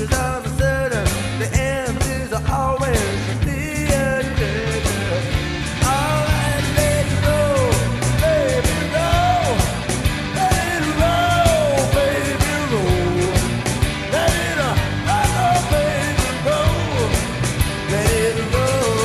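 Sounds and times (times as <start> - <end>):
person singing rock song: 0.0 - 19.0
steady drum beat: 0.0 - 19.0.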